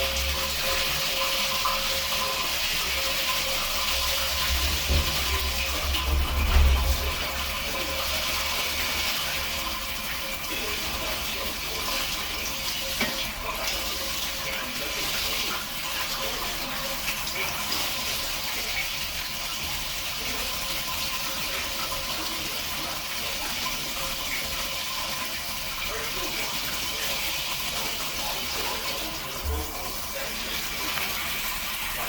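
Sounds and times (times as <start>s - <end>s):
water running from a tap: 0.0s - 32.0s.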